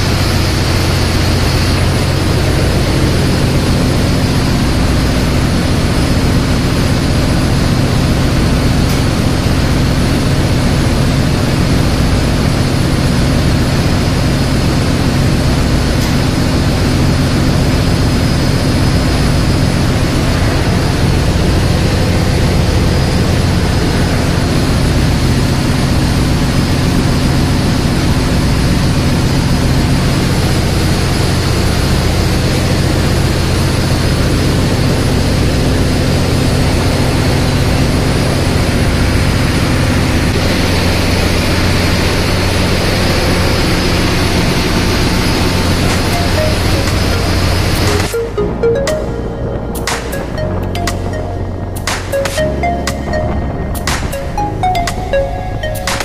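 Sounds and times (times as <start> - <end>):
diesel machinery drone: 0.0 - 56.0.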